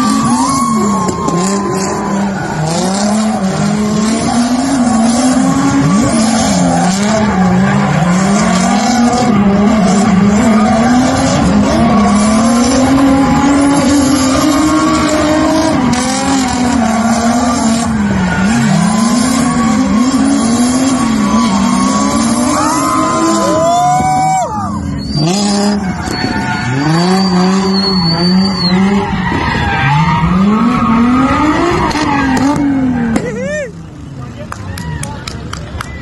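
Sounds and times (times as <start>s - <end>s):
tyre squeal: 0.0s - 33.2s
car engines revving: 0.0s - 36.0s.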